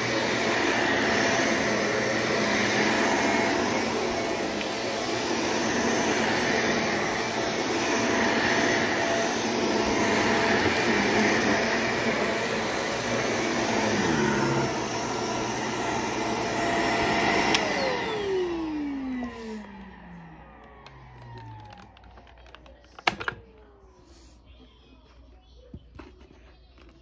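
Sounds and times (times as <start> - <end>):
vacuum cleaner running: 0.0 - 24.6.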